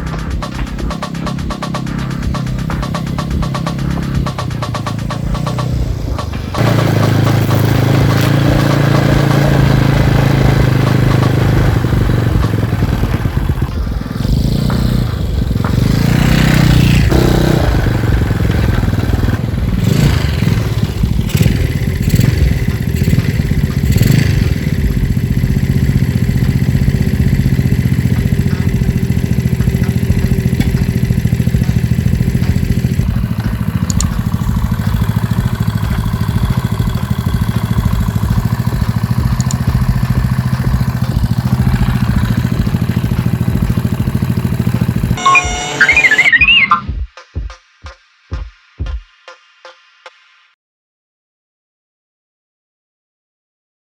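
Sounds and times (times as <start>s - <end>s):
scooter engine revving: 0.0s - 46.8s.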